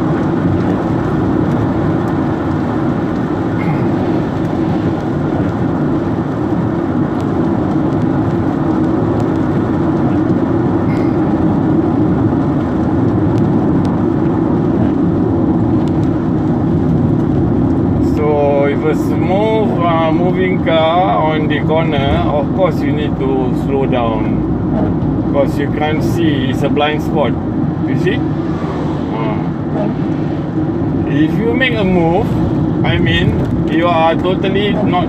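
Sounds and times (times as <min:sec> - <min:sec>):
car cabin road and engine noise: 0:00.0 - 0:35.0
rain: 0:00.0 - 0:35.0.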